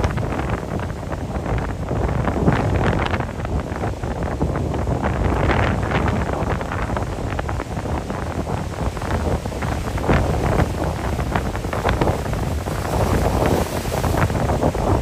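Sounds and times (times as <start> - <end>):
surf crashing on rocks: 0.0 - 15.0
wind buffeting microphone: 0.0 - 15.0.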